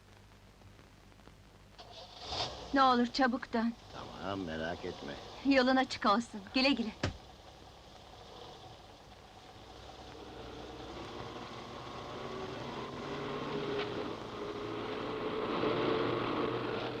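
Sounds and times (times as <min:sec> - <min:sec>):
car engine running: 0:01.8 - 0:17.0.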